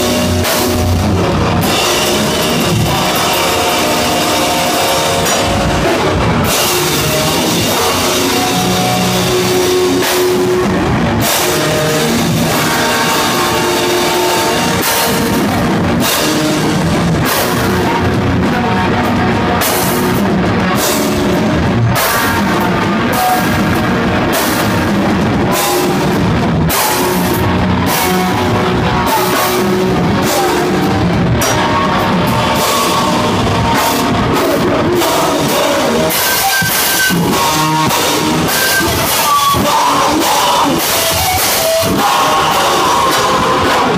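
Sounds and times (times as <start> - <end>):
distorted electric guitar riffs: 0.0 - 43.9
fast drums and cymbals: 0.0 - 43.9.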